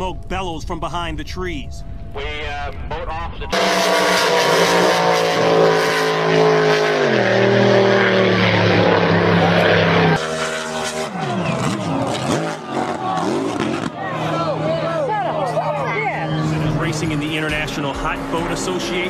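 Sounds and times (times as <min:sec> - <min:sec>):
racing boat engine: 0:02.9 - 0:19.0
engine tones swooping in pitch: 0:03.3 - 0:19.0.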